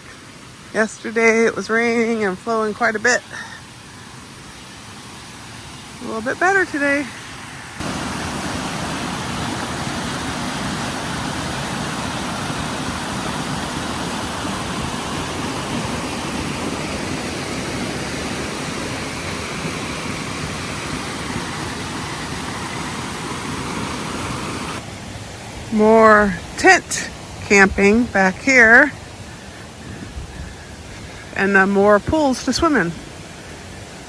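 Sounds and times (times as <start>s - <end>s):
river flowing: 0.0s - 34.0s.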